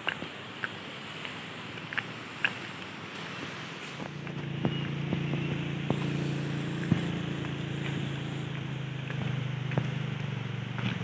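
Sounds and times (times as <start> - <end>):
footsteps on dirt path: 0.0 - 11.0
small engine humming: 1.7 - 11.0.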